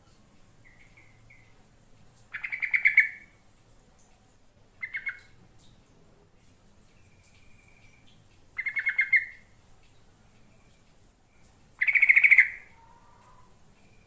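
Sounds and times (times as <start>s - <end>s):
bulbul singing: 0.4s - 3.5s, 4.8s - 5.8s, 6.8s - 14.0s.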